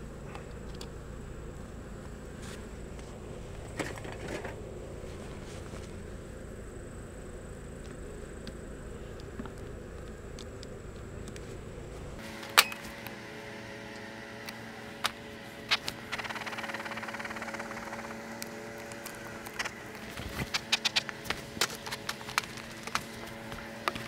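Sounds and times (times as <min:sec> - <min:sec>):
honeybees humming: 0:00.0 - 0:24.0.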